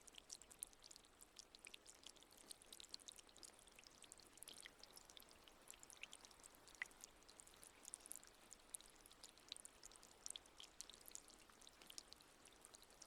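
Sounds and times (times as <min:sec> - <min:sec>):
fountain water trickling and dripping: 0:00.0 - 0:13.0.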